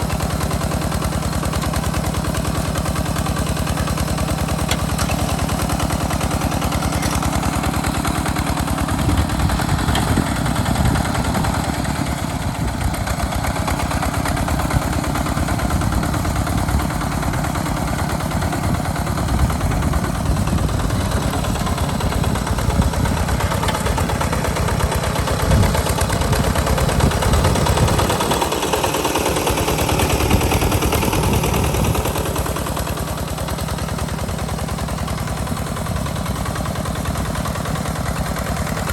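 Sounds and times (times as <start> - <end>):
single-cylinder diesel engine running: 0.0 - 38.9.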